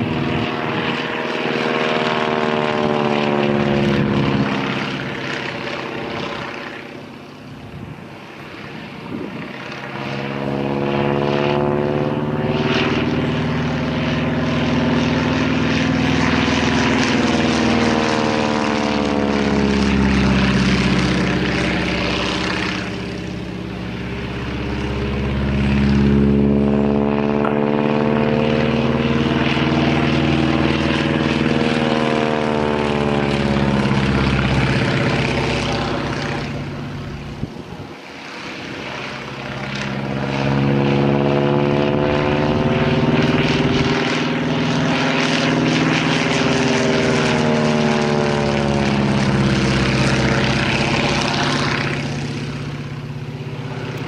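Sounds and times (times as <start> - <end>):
biplane engine and propeller drone: 0.0 - 54.0.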